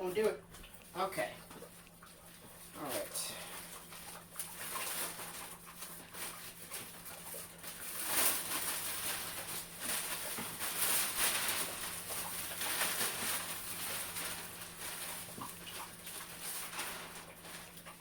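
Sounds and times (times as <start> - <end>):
plastic sheeting crinkling: 0.9 - 18.0.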